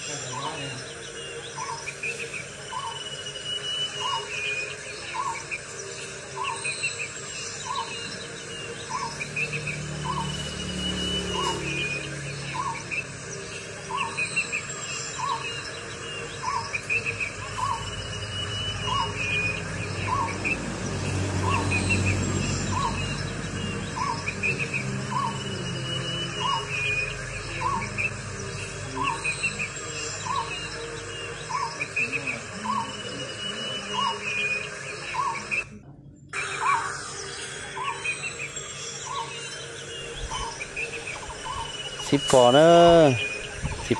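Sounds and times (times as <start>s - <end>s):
insect trill: 0.0s - 35.6s, 36.4s - 43.9s.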